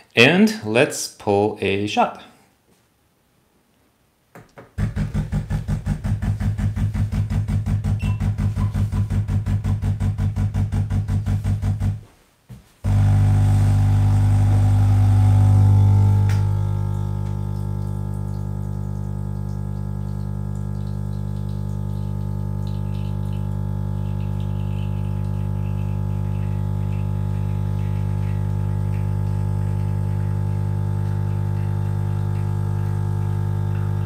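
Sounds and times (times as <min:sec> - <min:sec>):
espresso pump buzzing: 0:04.8 - 0:12.0, 0:12.9 - 0:34.0.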